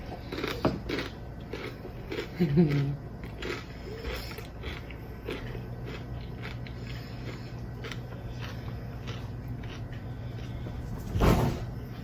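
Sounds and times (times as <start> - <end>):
crunchy chewing of chips: 0.0 - 11.0
low steady hum: 0.0 - 12.0.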